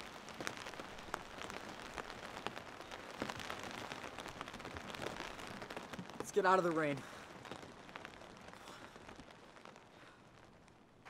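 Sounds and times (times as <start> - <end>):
raindrops ticking: 0.0 - 11.0
steady rain: 0.0 - 11.0.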